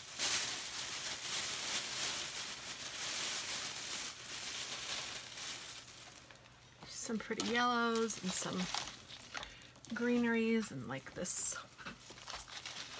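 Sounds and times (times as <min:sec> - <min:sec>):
artificial flowers rustling and crinkling: 0:00.0 - 0:12.9.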